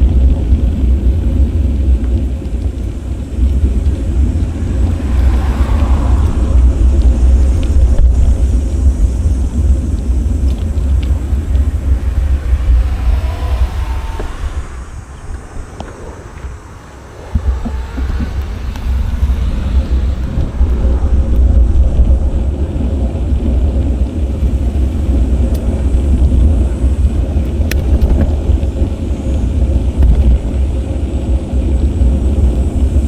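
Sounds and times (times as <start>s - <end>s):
road noise: 0.0s - 33.0s
wind buffeting microphone: 0.0s - 33.0s.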